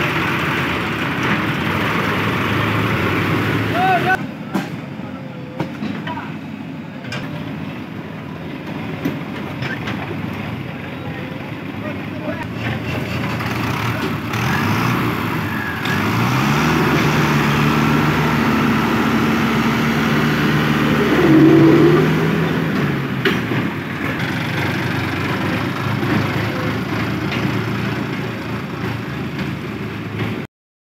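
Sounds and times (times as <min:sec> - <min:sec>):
diesel engines running: 0:00.0 - 0:30.4.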